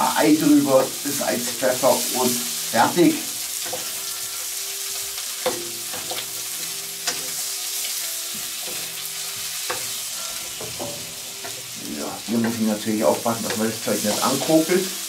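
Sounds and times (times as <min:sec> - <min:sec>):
dumplings sizzling in butter: 0:00.0 - 0:15.0.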